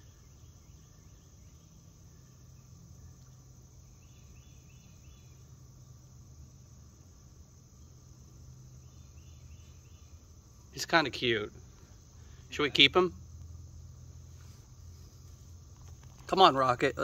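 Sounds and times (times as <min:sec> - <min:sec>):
insects chirping: 0:00.0 - 0:17.0
low steady hum: 0:00.0 - 0:17.0.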